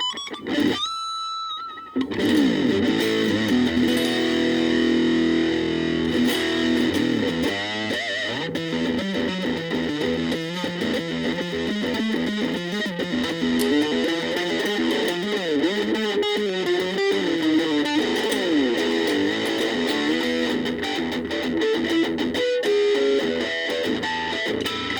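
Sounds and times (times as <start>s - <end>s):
electric guitar playing: 0.0s - 24.9s.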